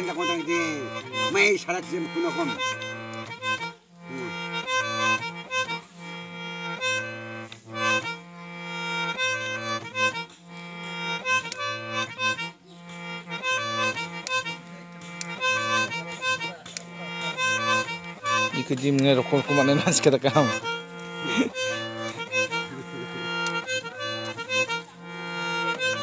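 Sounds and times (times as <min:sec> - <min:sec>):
accordion playing a tune: 0:00.0 - 0:26.0.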